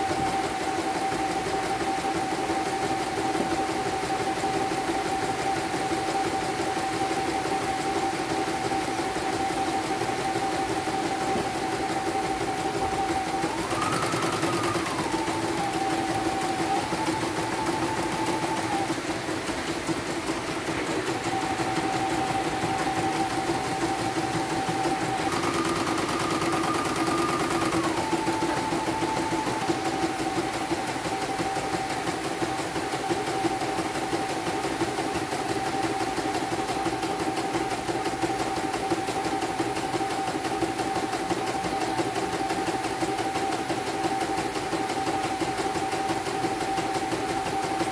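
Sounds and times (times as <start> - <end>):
embroidery machine motor whine: 0.0 - 47.9.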